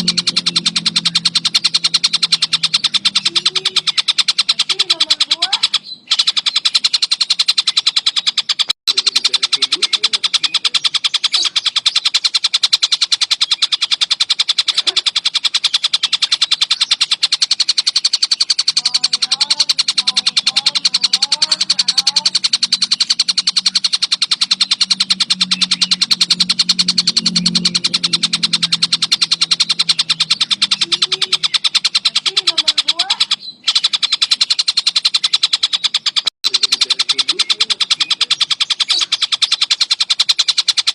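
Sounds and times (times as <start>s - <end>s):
faint lower bird calls: 0.0s - 40.9s
songbird trilling: 0.0s - 40.9s.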